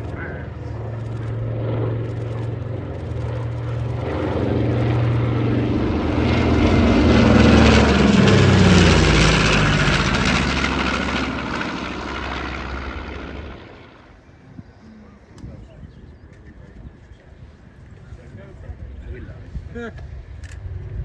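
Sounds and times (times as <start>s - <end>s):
propeller aircraft flying past: 0.0s - 15.4s, 16.3s - 21.0s.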